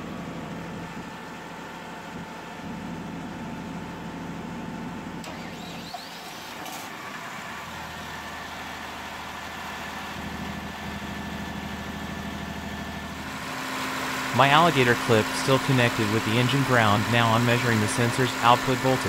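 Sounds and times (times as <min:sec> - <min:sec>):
diesel generator engine running: 0:00.0 - 0:19.0.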